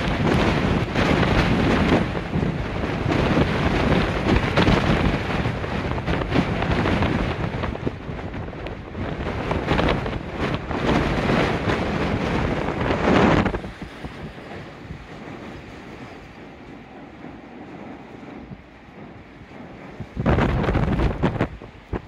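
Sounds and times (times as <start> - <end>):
gale wind buffeting microphone: 0.0 - 22.0.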